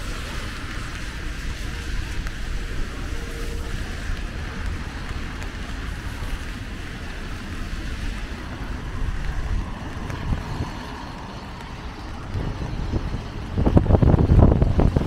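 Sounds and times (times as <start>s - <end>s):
low rumble: 0.0s - 15.0s
rain hiss: 0.0s - 15.0s.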